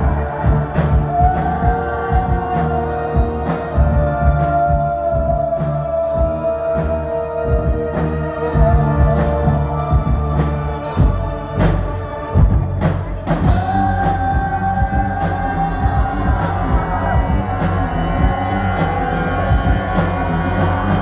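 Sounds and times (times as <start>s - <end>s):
steady drum beat: 0.0s - 21.0s
sustained synthesizer chords: 0.0s - 21.0s.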